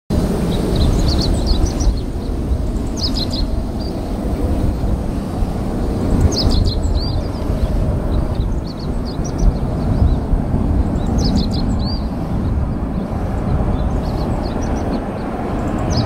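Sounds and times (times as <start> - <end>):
steady low rumble: 0.1 - 16.0
small birds chirping: 0.2 - 16.0.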